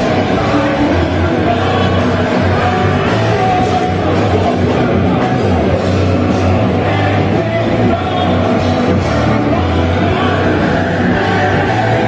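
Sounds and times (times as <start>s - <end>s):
person singing into a microphone: 0.0s - 5.8s, 6.4s - 12.0s
distorted electric guitars: 0.0s - 12.0s
heavy low end: 0.0s - 12.0s.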